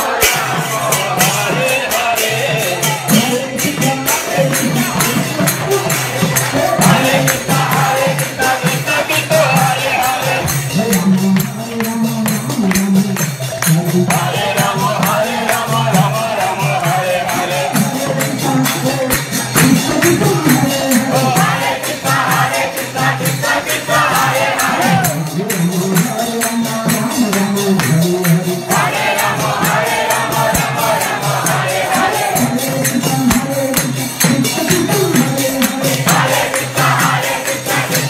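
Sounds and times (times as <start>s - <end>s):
group chanting in song: 0.0s - 38.0s
hand cymbals clashing: 0.0s - 38.0s.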